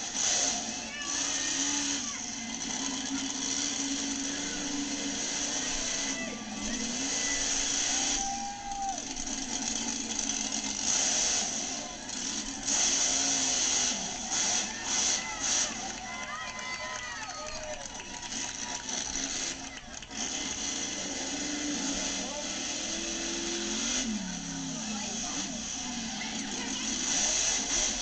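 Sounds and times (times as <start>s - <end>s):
loud arena din: 0.0s - 28.0s
monster truck engine running: 0.0s - 28.0s.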